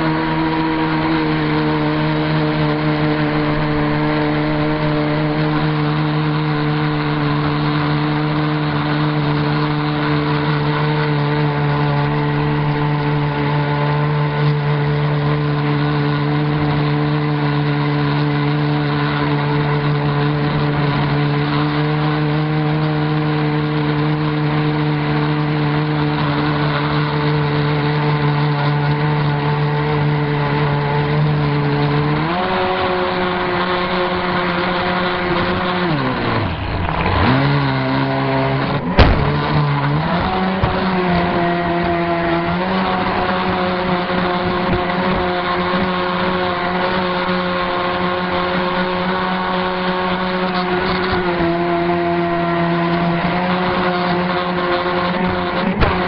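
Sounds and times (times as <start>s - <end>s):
speedboat motors running high: 0.0s - 56.0s.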